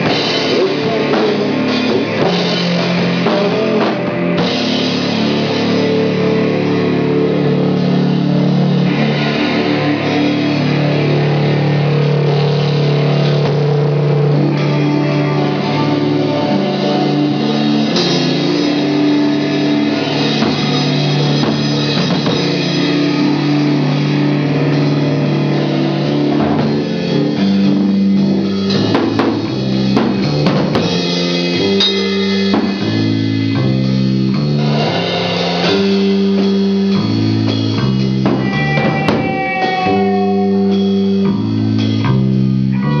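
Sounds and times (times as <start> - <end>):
drum and cymbal hits: 0.0 - 14.8, 15.8 - 42.7
rock band playing live: 0.0 - 43.0.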